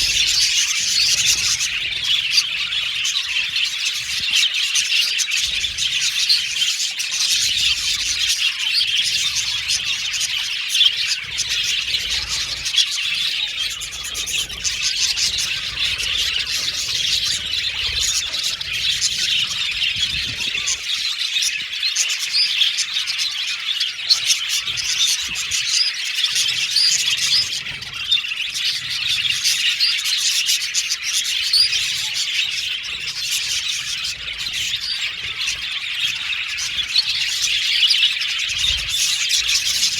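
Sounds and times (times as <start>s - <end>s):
bird squawk: 0.0s - 39.9s
budgerigars chirping and chattering: 0.0s - 39.9s.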